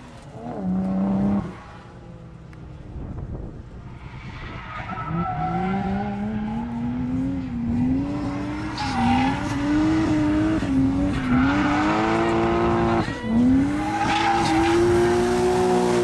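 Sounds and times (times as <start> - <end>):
car engine revving: 0.0 - 3.1, 4.0 - 16.0.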